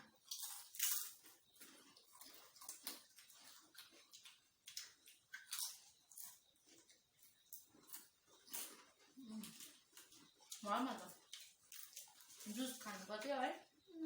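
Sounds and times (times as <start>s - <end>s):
potato chips crunching: 0.2s - 13.2s.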